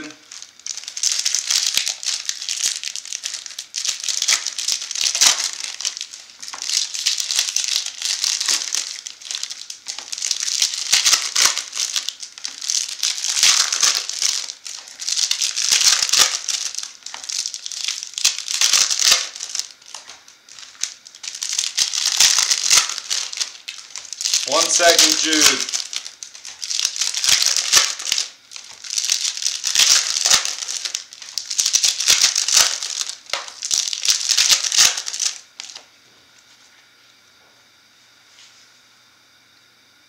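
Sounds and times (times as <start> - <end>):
foil wrappers tearing and crinkling: 0.0 - 35.8.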